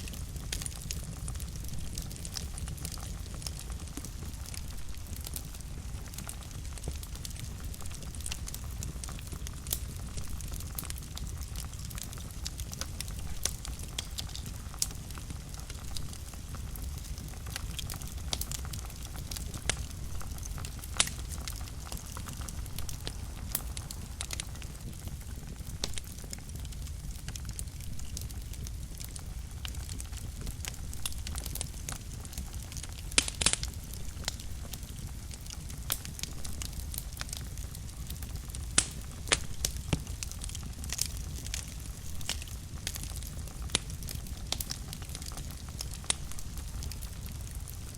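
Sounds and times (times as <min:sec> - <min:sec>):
fire crackles and pops: 0:00.0 - 0:47.9
fire rumbling in a fireplace: 0:00.0 - 0:47.9.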